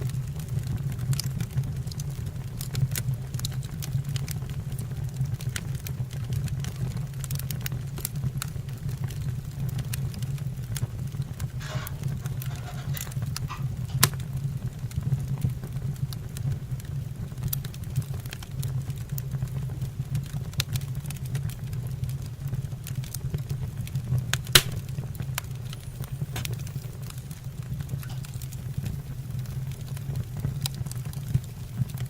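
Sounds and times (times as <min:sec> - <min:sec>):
fire roaring low: 0:00.0 - 0:32.0
wood fire crackling and popping: 0:00.0 - 0:32.0.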